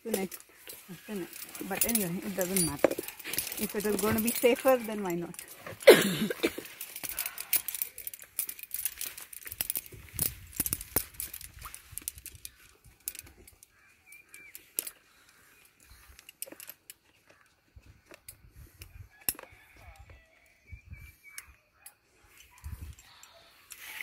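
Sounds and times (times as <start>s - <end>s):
rope rustling: 0.0s - 20.4s, 22.1s - 24.0s
carabiners clinking: 0.0s - 24.0s.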